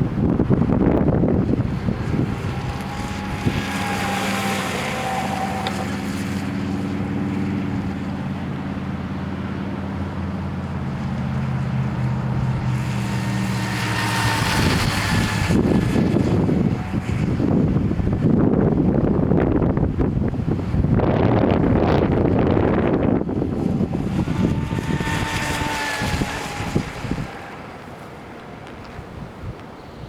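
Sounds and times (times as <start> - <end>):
wind buffeting microphone: 0.0 - 30.0
electric motor whine: 0.2 - 19.8, 20.8 - 30.0.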